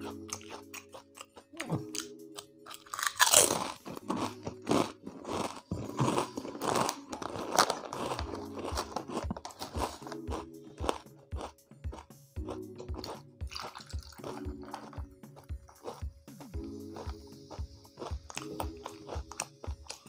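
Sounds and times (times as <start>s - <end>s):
crunching potato chips: 0.0s - 16.1s, 16.9s - 20.0s.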